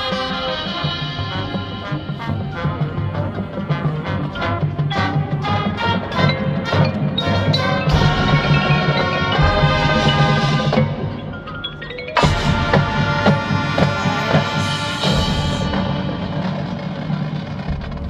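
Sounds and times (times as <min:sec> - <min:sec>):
marching band playing: 0:00.0 - 0:18.0
mallet percussion: 0:00.1 - 0:18.0.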